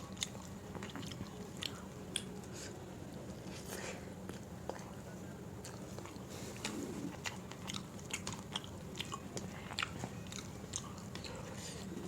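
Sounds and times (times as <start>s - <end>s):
person chewing and smacking: 0.0s - 11.9s.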